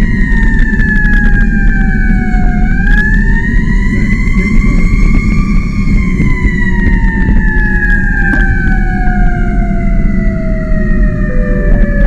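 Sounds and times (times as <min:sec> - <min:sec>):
engine and road rumble: 0:00.0 - 0:12.0
fire truck siren wailing: 0:00.0 - 0:12.0.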